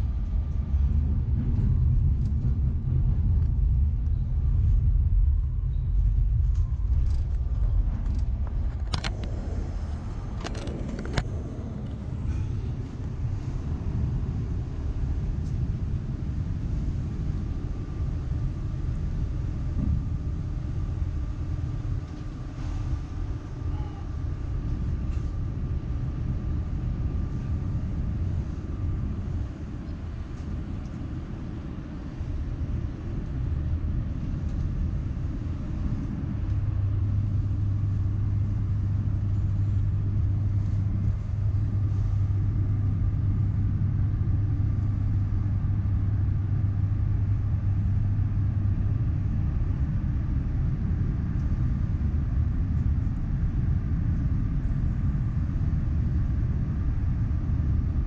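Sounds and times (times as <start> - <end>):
train rumbling: 0.0 - 53.4
strong low hum: 0.0 - 58.0.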